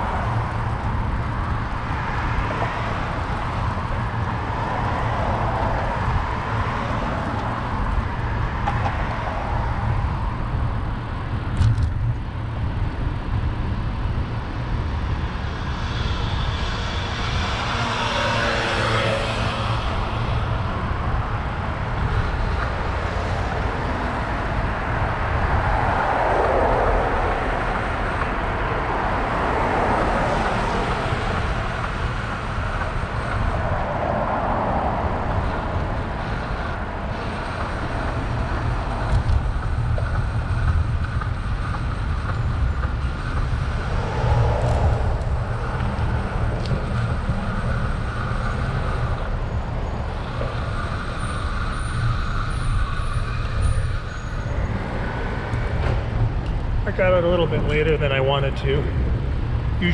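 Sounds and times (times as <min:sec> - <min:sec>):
vehicles going by: 0:00.0 - 0:59.9
wind rumble on microphone: 0:00.0 - 0:59.9.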